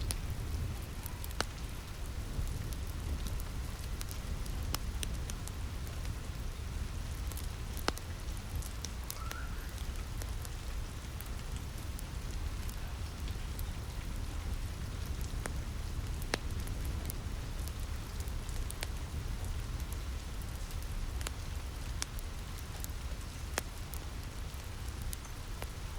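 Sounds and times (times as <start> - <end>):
rain pattering on a roof: 0.0 - 25.9
wood fire popping and crackling: 0.0 - 25.9.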